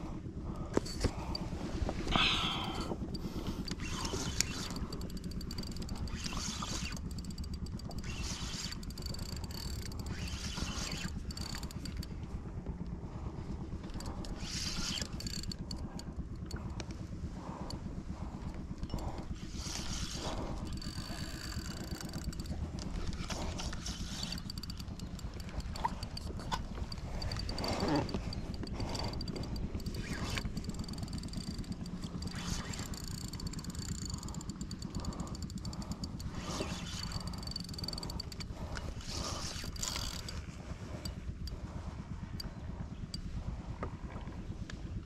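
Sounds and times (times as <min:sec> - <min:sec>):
boat engine rumbling: 0:00.0 - 0:45.0.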